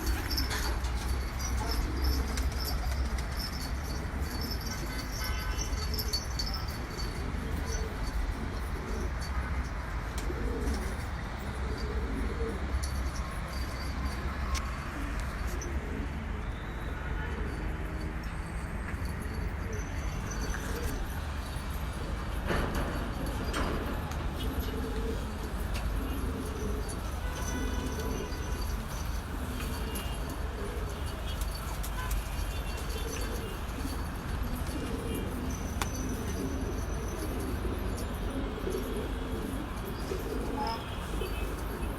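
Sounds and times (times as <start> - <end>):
pigeons cooing: 0.0 - 18.0, 19.1 - 41.9.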